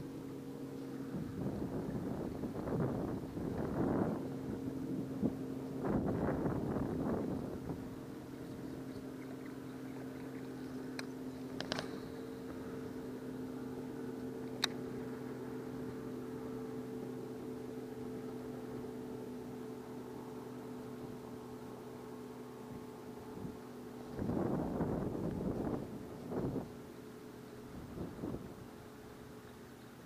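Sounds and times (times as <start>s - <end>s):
electric boat motor humming: 0.0s - 30.0s.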